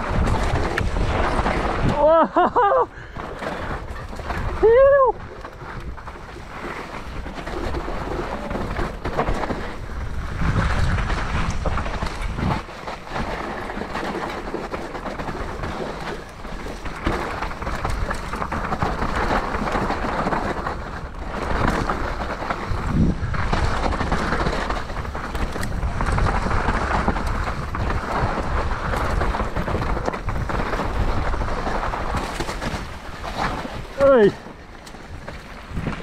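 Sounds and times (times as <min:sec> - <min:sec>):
bike tyres rumbling on dirt trail: 0:00.0 - 0:36.0
wind buffeting microphone: 0:00.0 - 0:36.0
bike knocking over bumps: 0:02.6 - 0:36.0.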